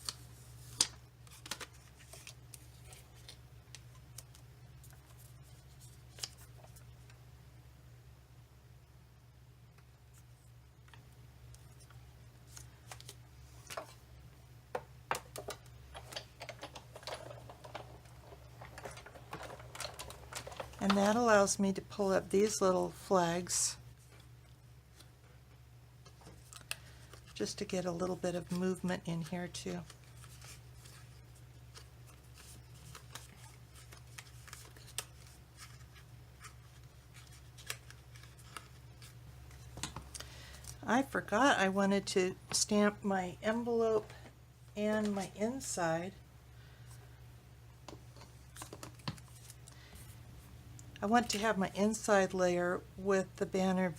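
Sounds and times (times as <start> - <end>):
low steady hum: 0.0 - 53.9.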